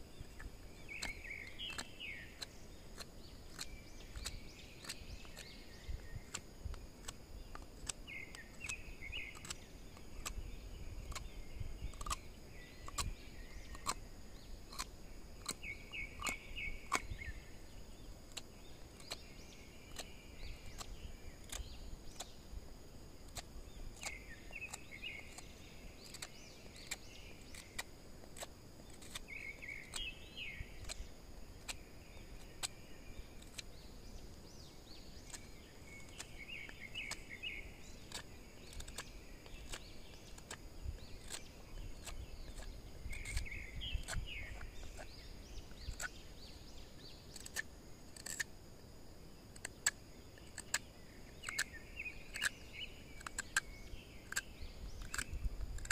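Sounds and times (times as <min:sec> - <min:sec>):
bird chirping: 0:00.0 - 0:55.9
insects droning: 0:00.0 - 0:55.9
sharp clicks: 0:00.2 - 0:14.0, 0:14.6 - 0:17.4, 0:18.2 - 0:19.3, 0:19.9 - 0:22.4, 0:23.2 - 0:30.1, 0:30.7 - 0:32.8, 0:33.4 - 0:33.8, 0:35.2 - 0:46.2, 0:47.3 - 0:48.5, 0:49.5 - 0:55.9.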